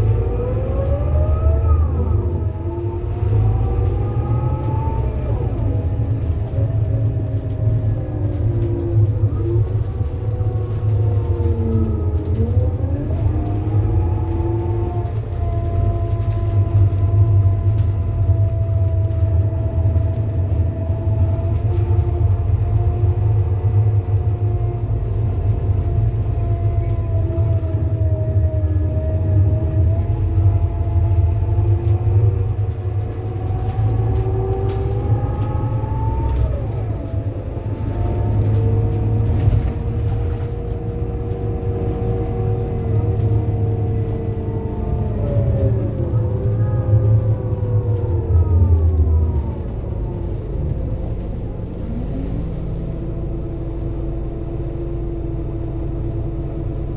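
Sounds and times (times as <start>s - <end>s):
bus engine rumble: 0.0s - 56.9s.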